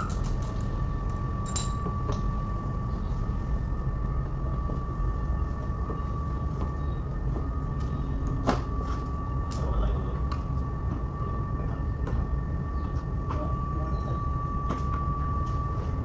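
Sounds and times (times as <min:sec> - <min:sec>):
high whine: 0:00.0 - 0:16.0
low machine rumble: 0:00.0 - 0:16.0.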